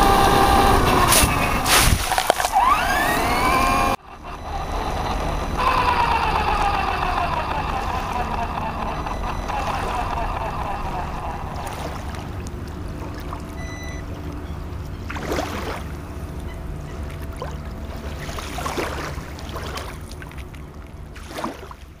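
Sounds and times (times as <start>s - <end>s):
water lapping and splashing: 0.0s - 22.0s
steady low rumble: 3.9s - 22.0s.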